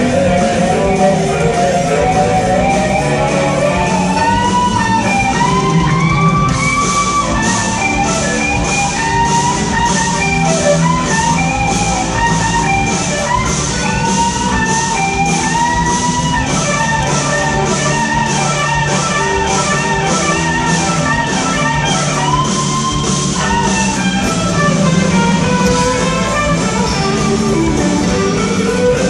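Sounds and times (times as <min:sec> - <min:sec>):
bass guitar: 0:00.0 - 0:29.0
cymbals keeping a beat: 0:00.0 - 0:29.0
drums: 0:00.0 - 0:29.0
electric guitar lead melody: 0:00.0 - 0:29.0.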